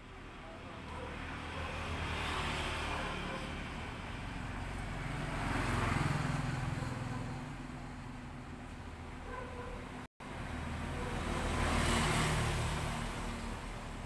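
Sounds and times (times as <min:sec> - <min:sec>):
vehicles passing by: 0:00.0 - 0:14.0.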